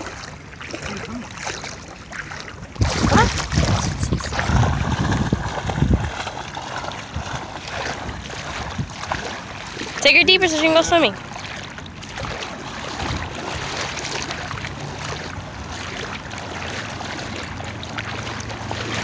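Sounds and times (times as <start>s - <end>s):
dog splashing through water: 0.0s - 19.0s
lapping water: 0.0s - 19.0s
wind buffeting microphone: 2.6s - 19.0s.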